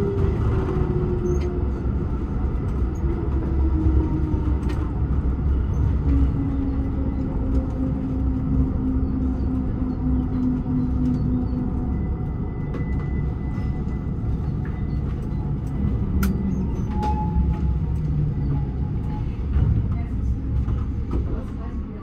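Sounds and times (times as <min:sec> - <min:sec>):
buses and trams droning: 0:00.0 - 0:22.0.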